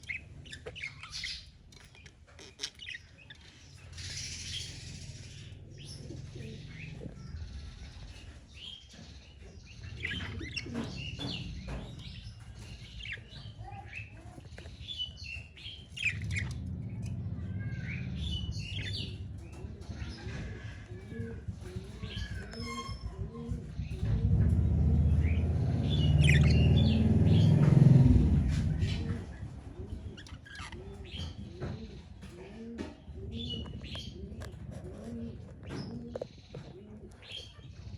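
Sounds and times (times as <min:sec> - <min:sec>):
budgies chirping and warbling: 0:00.0 - 0:37.9.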